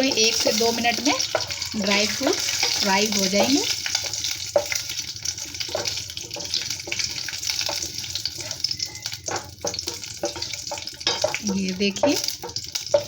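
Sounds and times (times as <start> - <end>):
dry fruits sizzling in hot ghee: 0.0 - 13.0.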